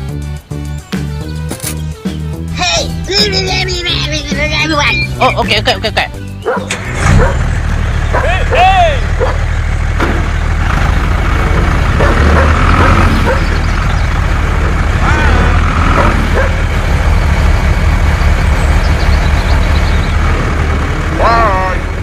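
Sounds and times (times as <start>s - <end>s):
truck engine rumble: 0.0s - 22.0s.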